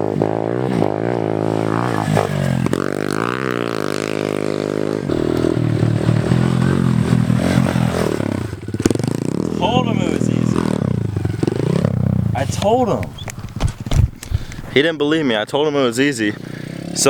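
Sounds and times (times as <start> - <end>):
motorbike engine revving: 0.0 - 14.8, 16.2 - 17.0.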